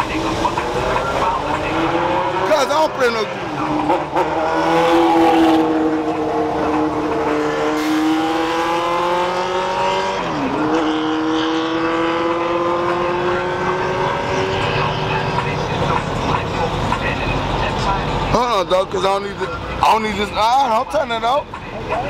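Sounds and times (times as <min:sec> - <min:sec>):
car engine at high revs: 0:00.0 - 0:18.6.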